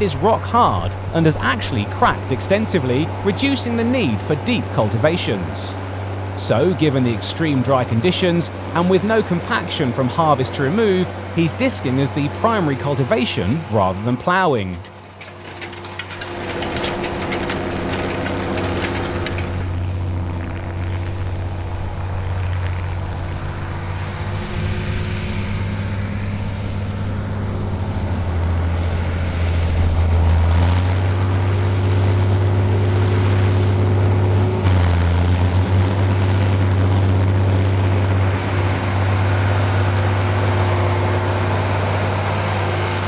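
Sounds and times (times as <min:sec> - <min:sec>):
tractor diesel engine drone: 0:00.0 - 0:43.0.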